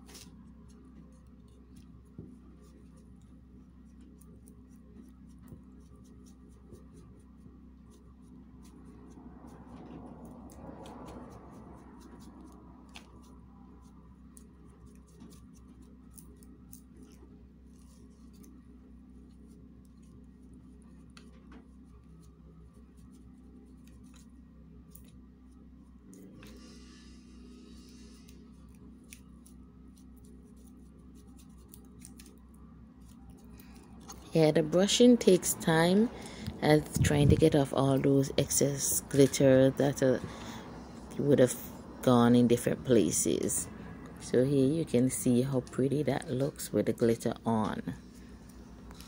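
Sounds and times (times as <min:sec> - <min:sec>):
brush sweeping glitter: 0:00.0 - 0:49.0
low steady hum: 0:00.0 - 0:49.0.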